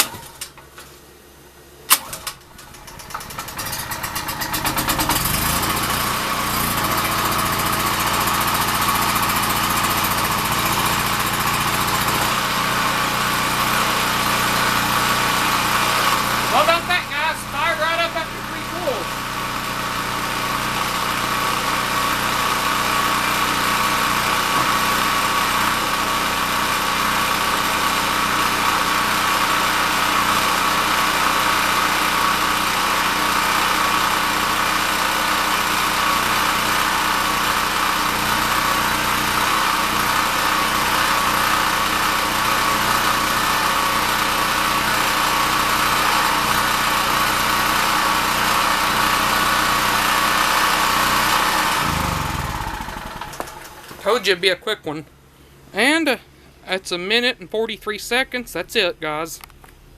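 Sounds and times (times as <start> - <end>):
generator engine running: 0.0 - 59.7.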